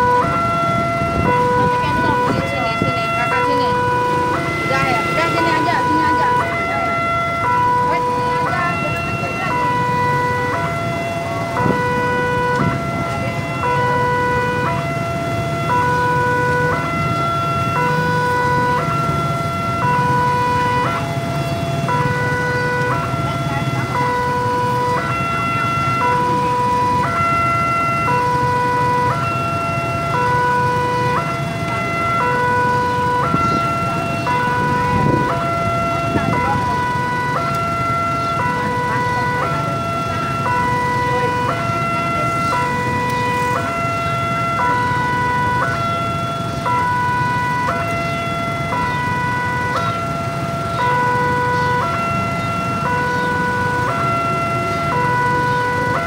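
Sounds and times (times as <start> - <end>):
low rumble of traffic: 0.0 - 56.0
two-tone level crossing alarm: 0.0 - 56.0.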